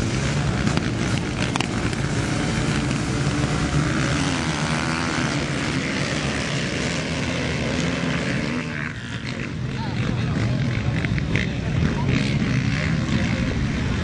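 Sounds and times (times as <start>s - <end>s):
motocross engines droning: 0.0s - 14.0s.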